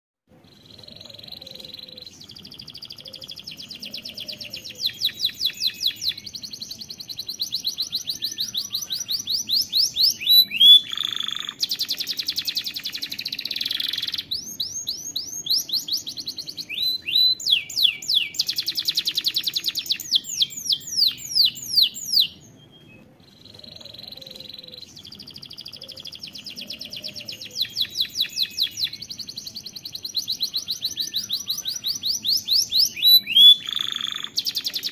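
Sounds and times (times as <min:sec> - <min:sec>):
canary singing trills: 0:00.5 - 0:34.9.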